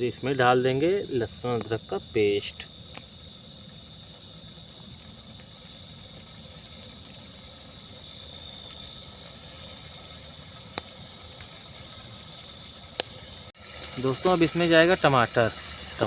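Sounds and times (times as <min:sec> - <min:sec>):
crickets chirping: 0:00.0 - 0:16.0
high insect drone: 0:00.0 - 0:16.0.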